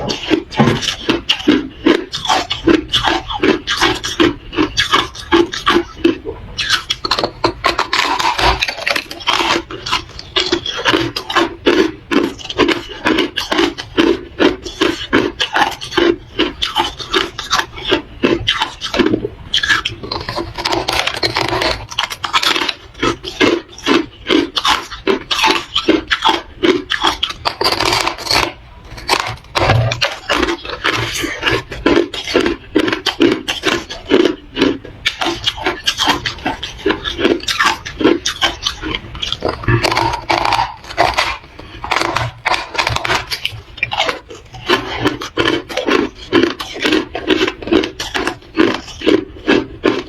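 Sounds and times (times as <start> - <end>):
crunching ice chewing: 0.0 - 50.0.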